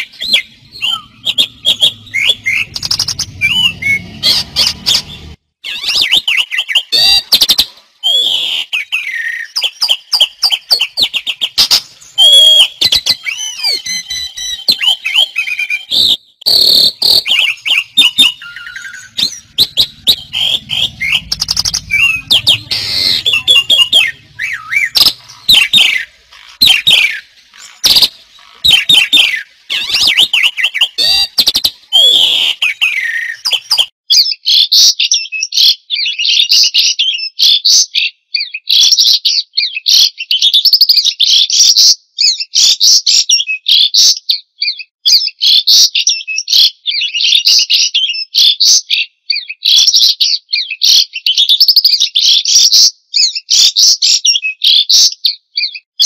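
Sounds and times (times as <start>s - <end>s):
songbird singing and chattering: 0.0s - 56.0s.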